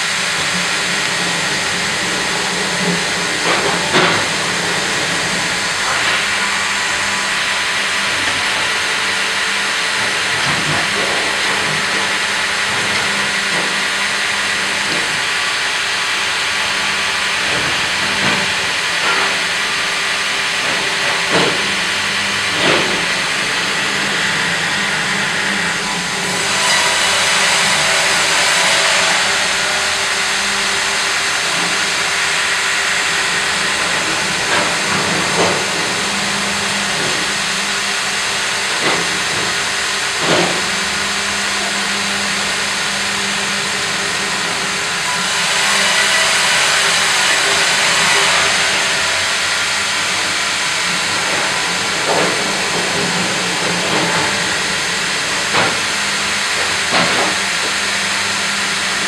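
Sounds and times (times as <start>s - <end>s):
band saw machine hissing: 0.0s - 59.0s.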